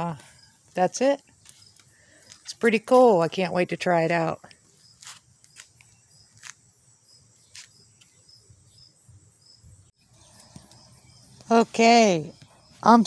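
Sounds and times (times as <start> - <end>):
faint insect chirping: 0.0 - 13.0.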